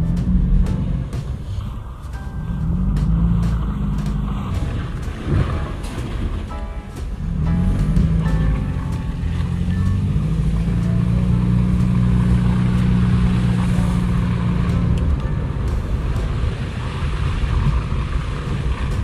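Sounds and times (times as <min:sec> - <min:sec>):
car engine humming: 0:00.0 - 0:19.0
tyre noise: 0:00.0 - 0:19.0.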